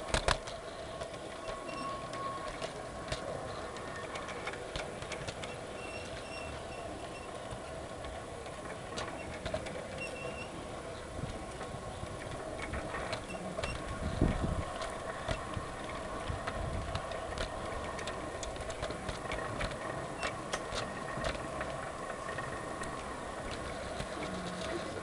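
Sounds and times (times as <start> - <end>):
model train motor hum: 0.0 - 25.0
wheels clicking over rail joints: 0.0 - 25.0.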